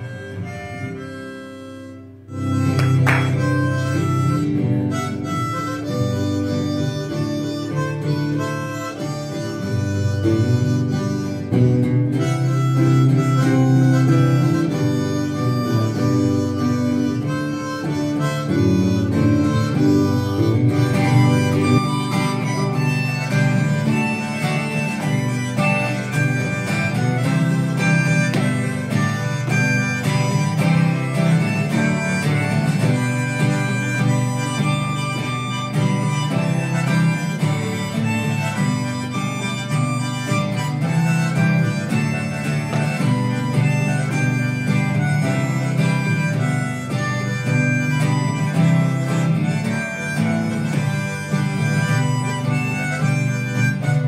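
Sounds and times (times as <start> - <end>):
harmonica melody: 0.0 - 54.0
strummed acoustic guitar: 0.0 - 54.0.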